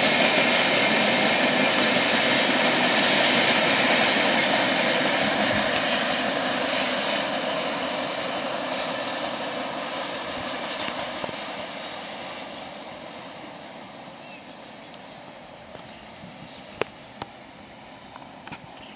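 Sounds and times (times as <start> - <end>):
train cars rolling on rails: 0.0 - 18.9.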